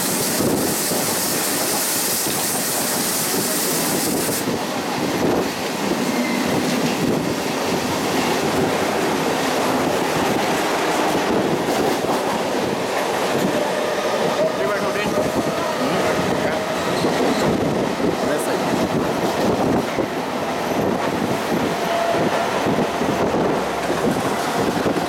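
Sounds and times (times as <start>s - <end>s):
passing train rushing hiss: 0.0s - 25.0s
train wheels clacking on rails: 0.0s - 25.0s.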